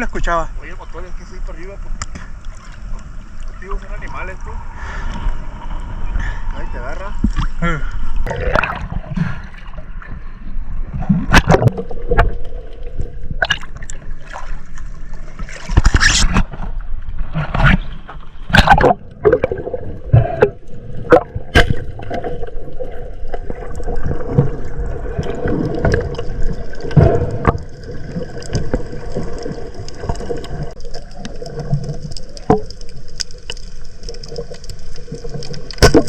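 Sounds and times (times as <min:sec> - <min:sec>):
water gurgling and sloshing: 0:00.0 - 0:36.0.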